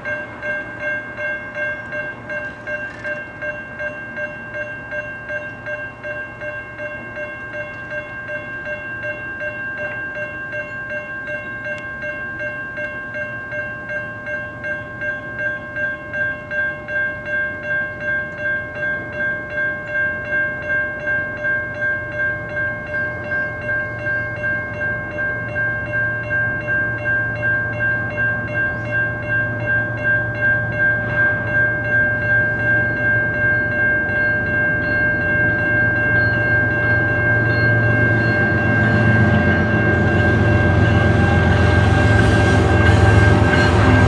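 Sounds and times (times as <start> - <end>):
bell ringing steadily: 0.0 - 44.0
train rumble: 0.0 - 44.0.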